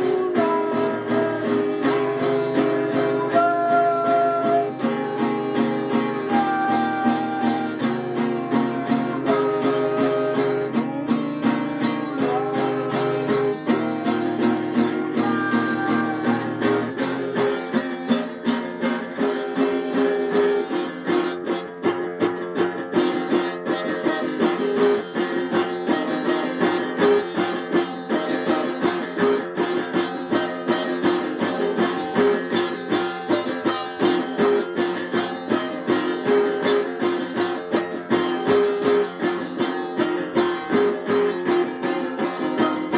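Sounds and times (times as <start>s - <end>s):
plucked string instrument: 0.0s - 42.9s.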